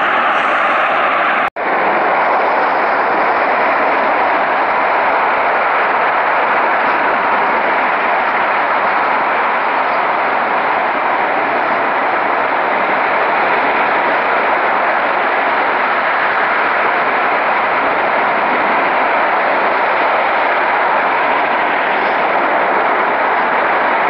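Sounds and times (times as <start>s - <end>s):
gas jet burning with roar: 0.0s - 24.0s.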